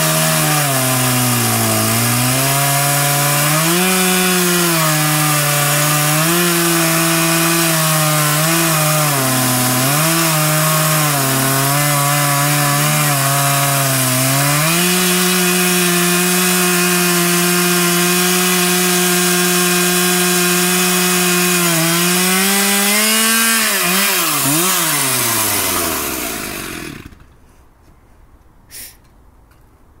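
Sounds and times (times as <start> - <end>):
chainsaw ripping a log: 0.0 - 27.4.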